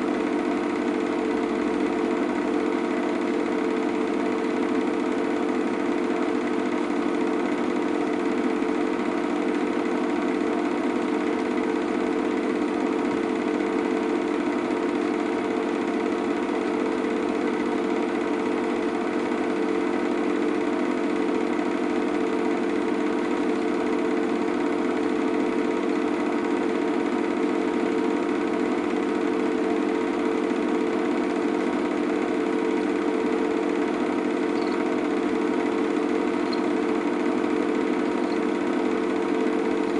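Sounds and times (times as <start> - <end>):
small machine whirring: 0.0 - 39.9.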